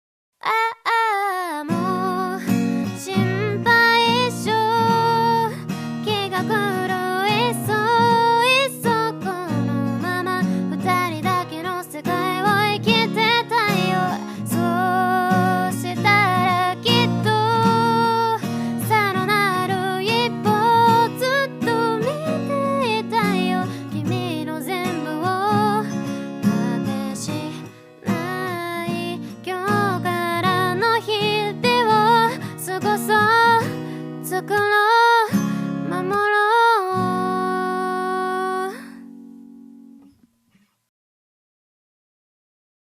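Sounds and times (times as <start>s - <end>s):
person singing: 0.4s - 39.0s
acoustic guitar strumming: 1.7s - 38.4s, 39.0s - 40.2s.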